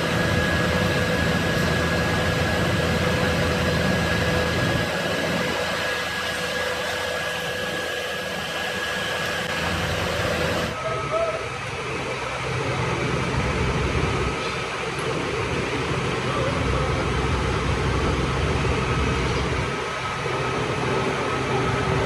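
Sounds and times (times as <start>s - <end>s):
workshop machinery motor whine: 0.0s - 22.0s.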